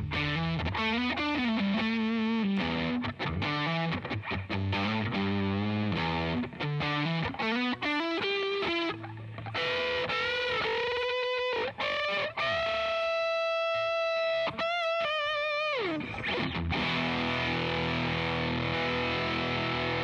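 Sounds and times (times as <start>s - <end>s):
distorted electric guitar: 0.0s - 20.0s.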